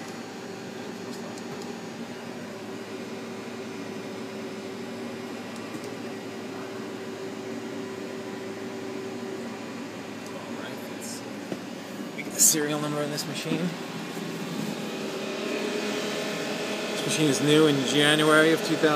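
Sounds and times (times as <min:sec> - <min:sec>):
machine hum with whine: 0:00.0 - 0:18.9.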